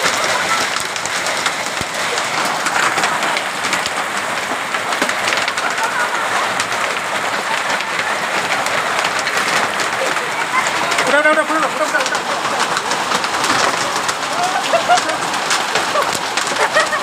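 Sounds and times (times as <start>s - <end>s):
hailstones striking ground: 0.0s - 17.0s
heavy rain: 0.0s - 17.0s.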